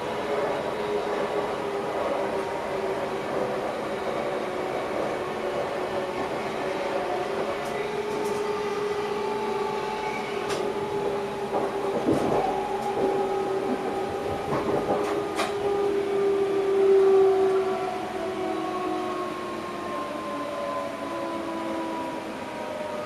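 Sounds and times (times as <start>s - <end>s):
electric train whining: 0.0s - 23.0s
train ride rumble: 0.0s - 23.0s.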